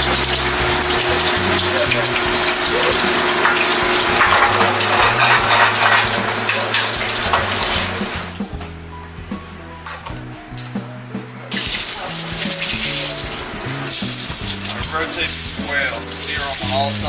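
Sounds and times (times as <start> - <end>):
food sizzling in a skillet: 0.0 - 8.3, 11.5 - 17.0.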